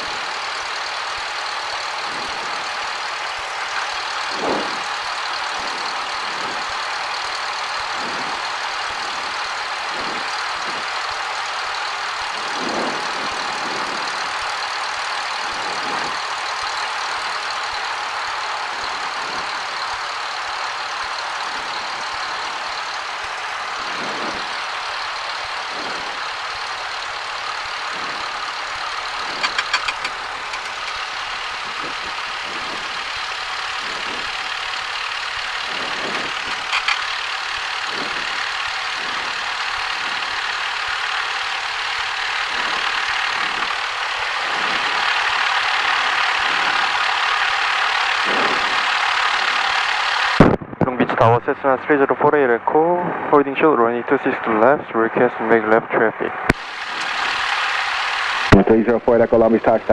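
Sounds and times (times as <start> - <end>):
aircraft engine and propeller drone: 0.0 - 50.5, 51.2 - 59.9.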